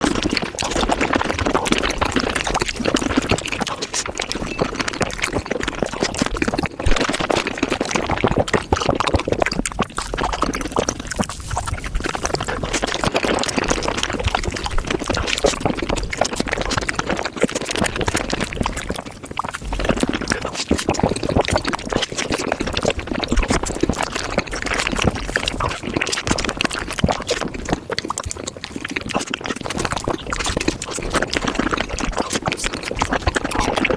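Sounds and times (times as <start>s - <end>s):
wet chewing: 0.0s - 33.9s.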